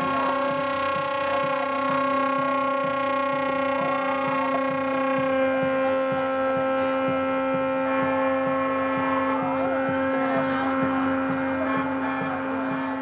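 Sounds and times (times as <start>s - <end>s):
faint low pulse: 0.0s - 13.0s
loud steady low hum: 0.0s - 13.0s.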